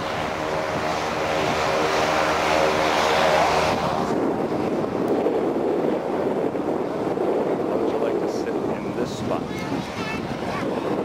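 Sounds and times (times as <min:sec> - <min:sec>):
engine running steadily: 0:00.0 - 0:11.0
wind rushing over microphone: 0:00.0 - 0:11.0.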